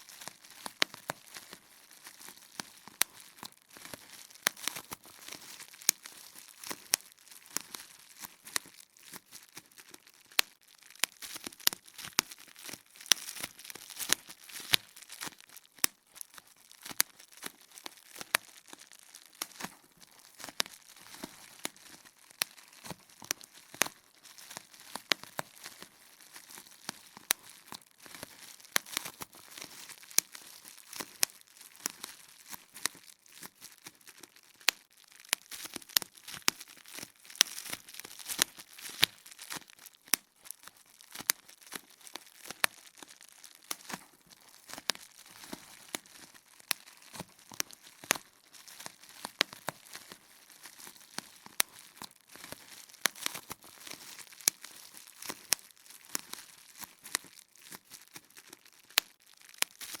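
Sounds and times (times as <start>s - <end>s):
bubble wrap popping: 0.0s - 60.0s
plastic crinkling: 0.0s - 60.0s.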